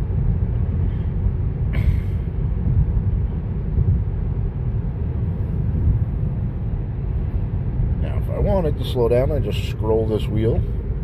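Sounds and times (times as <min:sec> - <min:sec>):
tyre and road rumble inside car: 0:00.0 - 0:11.0.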